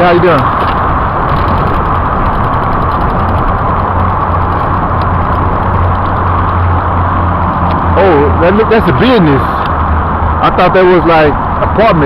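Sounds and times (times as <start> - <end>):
street traffic: 0.0 - 12.0
vehicle engine hum: 0.0 - 12.0.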